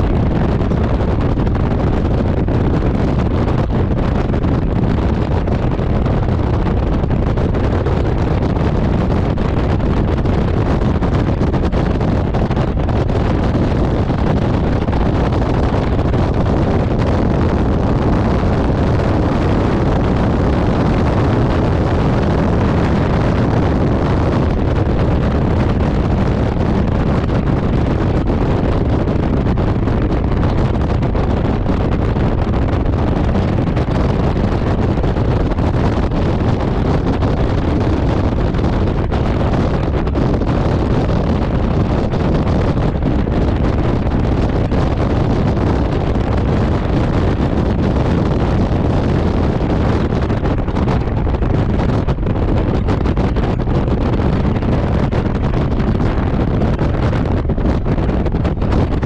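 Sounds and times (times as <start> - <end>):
motorcycle engine and tyre noise: 0.0 - 59.0
wind rush on microphone: 0.0 - 59.0.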